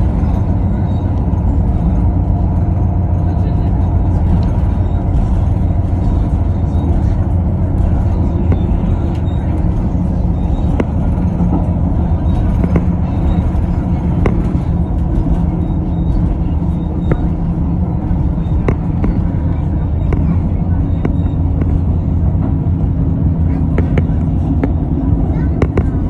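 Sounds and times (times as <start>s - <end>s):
train rumbling: 0.0s - 26.0s
wheels clicking over rails: 0.0s - 26.0s.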